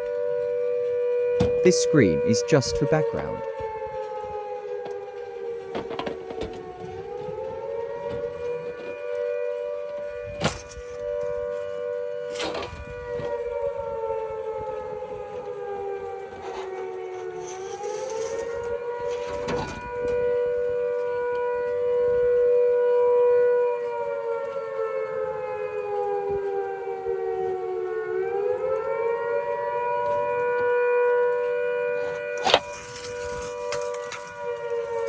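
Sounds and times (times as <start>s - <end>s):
flood warning siren wailing: 0.0s - 35.0s.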